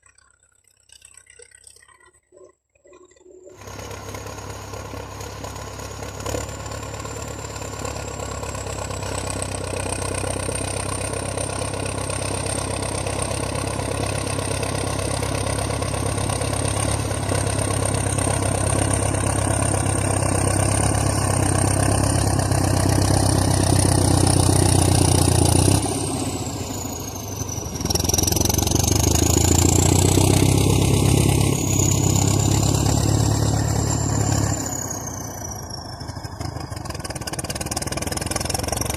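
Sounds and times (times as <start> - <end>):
diesel tractor engine under load: 3.2 - 38.9.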